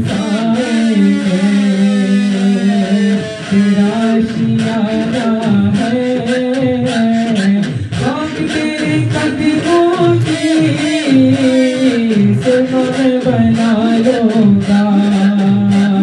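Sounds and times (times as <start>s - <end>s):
devotional song with held notes: 0.0s - 16.0s.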